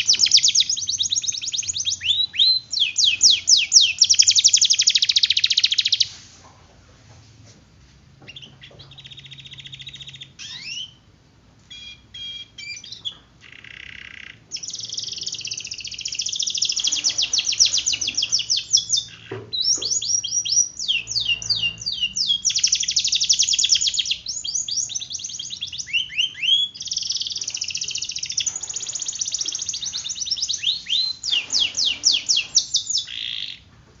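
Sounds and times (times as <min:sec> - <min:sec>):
canary singing: 0:00.0 - 0:06.1, 0:08.2 - 0:33.8.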